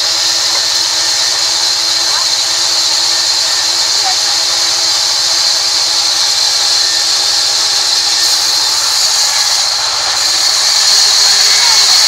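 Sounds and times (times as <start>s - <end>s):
band saw cutting log: 0.0s - 12.0s.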